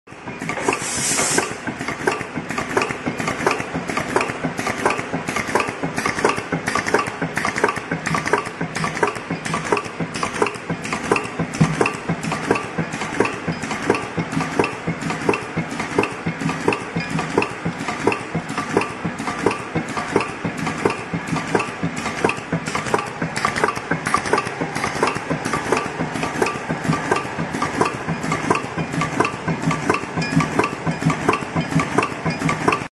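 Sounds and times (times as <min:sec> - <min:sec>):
pneumatic punch strokes: 0:00.4 - 0:32.9.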